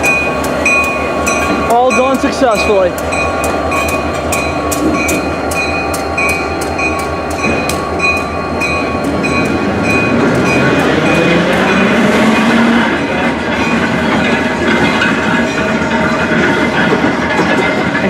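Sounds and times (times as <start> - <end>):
locomotive bell ringing: 0.0 - 18.0.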